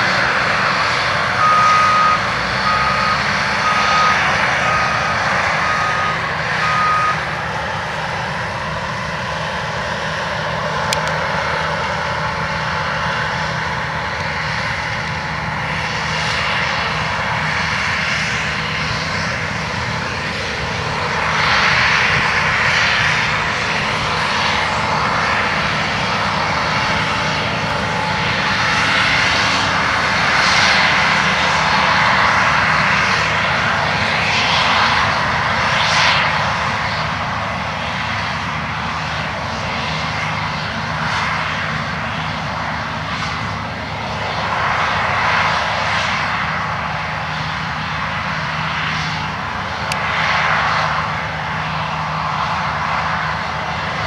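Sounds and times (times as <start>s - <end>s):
combine engine hum: 0.0s - 54.0s.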